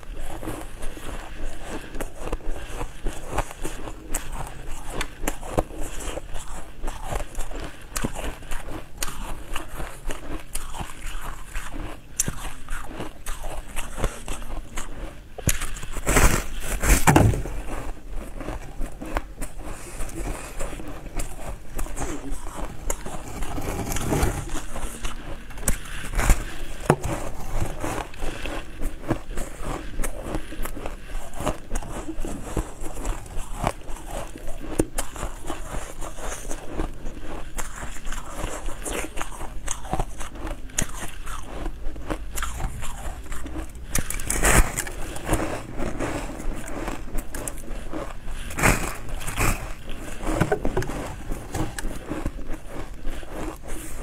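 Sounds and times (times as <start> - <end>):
crunchy chewing of frozen food: 0.0 - 54.0.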